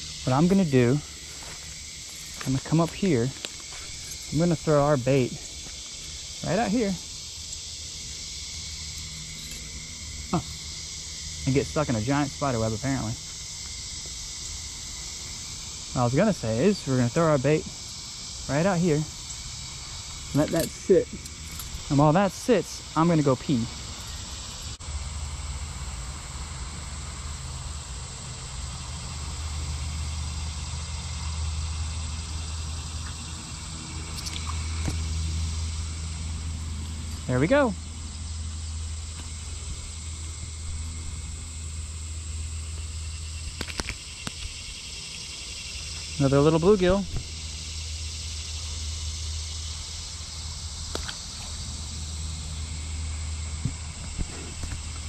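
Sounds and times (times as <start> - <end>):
faint outdoor hiss: 0.0 - 55.0
insect chorus: 0.0 - 55.0
low steady hum: 0.0 - 55.0
road traffic rumble: 0.0 - 55.0.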